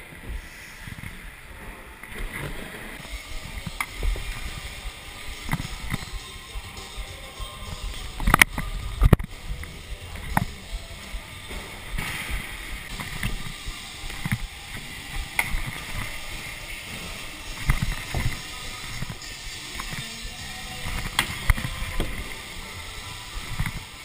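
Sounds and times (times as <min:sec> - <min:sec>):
scooter wheels rolling on wooden ramps: 0:00.0 - 0:24.0.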